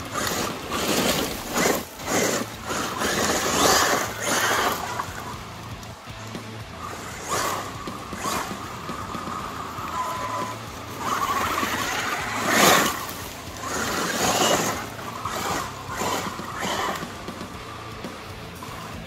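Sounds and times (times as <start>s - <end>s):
rc truck electric motor: 0.0s - 19.0s
tyres on gravel: 0.0s - 19.0s.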